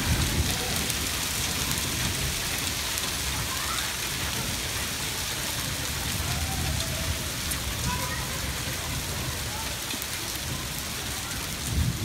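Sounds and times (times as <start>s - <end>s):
hail and heavy rain on pavement: 0.0s - 12.0s.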